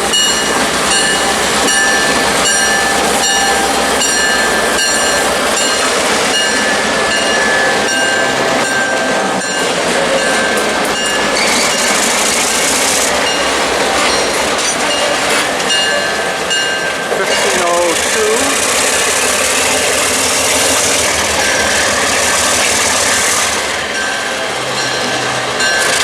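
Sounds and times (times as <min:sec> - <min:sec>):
high wheel squeal: 0:00.0 - 0:26.0
train wheels clicking over rail joints: 0:00.0 - 0:26.0.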